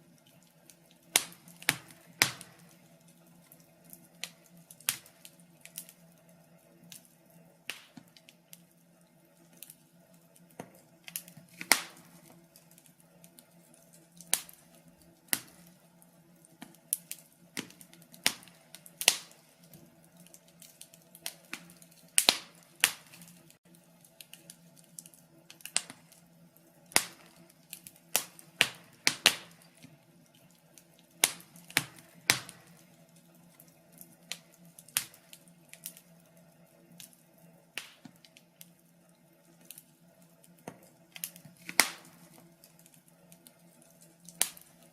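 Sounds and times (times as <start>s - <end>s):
faint steady hum: 0.0s - 44.9s
wood fire crackling: 0.0s - 44.9s.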